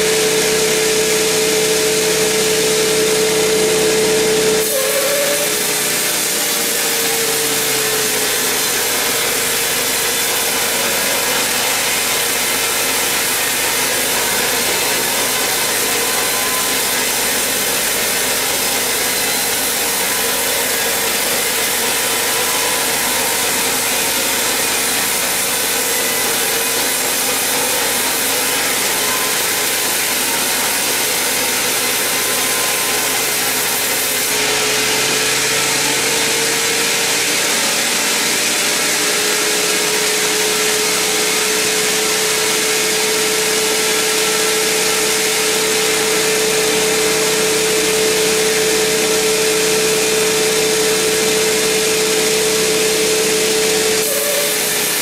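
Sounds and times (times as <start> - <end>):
band saw ripping through log: 0.1 - 55.0.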